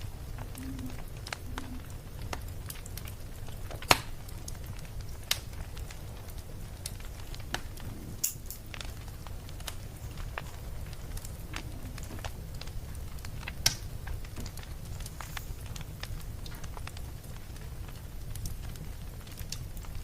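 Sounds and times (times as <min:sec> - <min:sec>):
fire pops and snaps: 0:00.0 - 0:20.0
low rumble of fire: 0:00.0 - 0:20.0.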